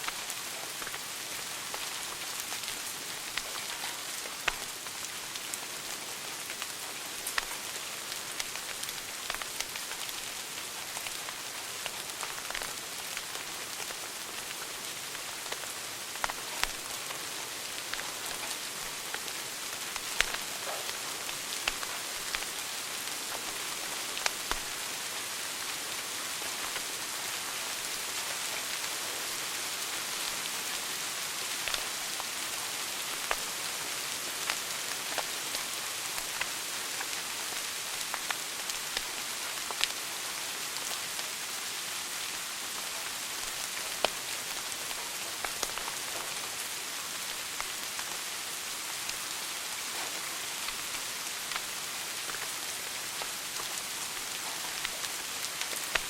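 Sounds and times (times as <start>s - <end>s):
wood fire crackling: 0.0s - 25.7s, 31.6s - 40.1s, 42.1s - 56.0s.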